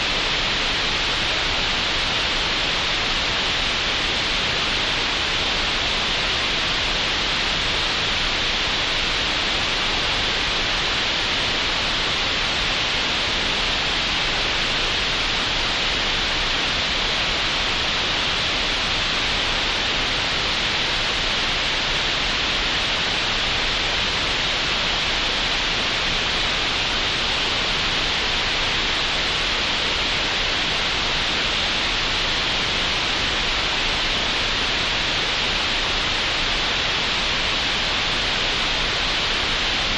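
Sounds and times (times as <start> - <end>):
steady green noise hiss: 0.0 - 39.9.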